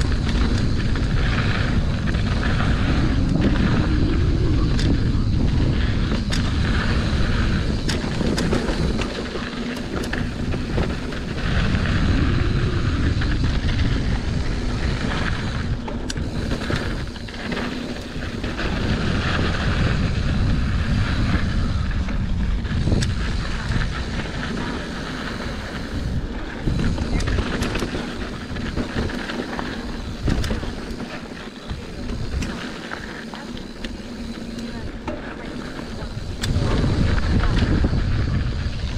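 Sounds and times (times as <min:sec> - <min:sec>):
bike knocking and rattling: 0:00.0 - 0:38.9
wind buffeting microphone: 0:00.0 - 0:38.9.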